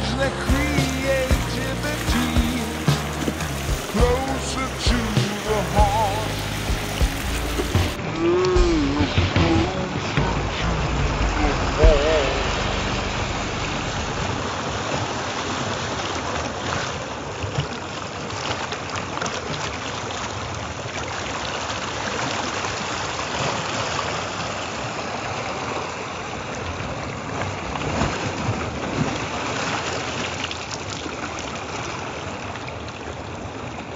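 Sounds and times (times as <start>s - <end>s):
water splashing against rocks: 0.2s - 33.9s.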